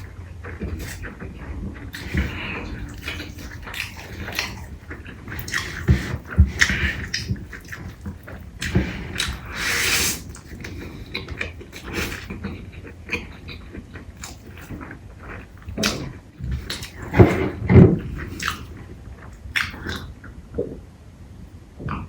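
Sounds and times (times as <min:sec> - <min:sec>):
wet chewing and smacking: 0:00.0 - 0:20.4.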